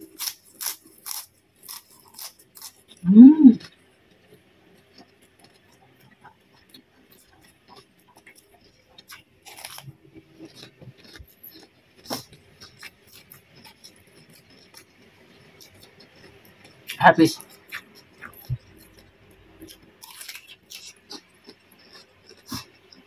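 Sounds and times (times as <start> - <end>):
food crunching: 0.0 - 3.0, 3.6 - 23.0
person chewing: 0.0 - 23.0.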